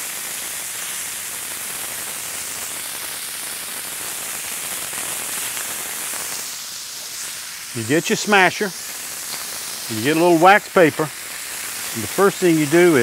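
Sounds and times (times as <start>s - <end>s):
meat and onions sizzling on griddle: 0.0s - 13.0s.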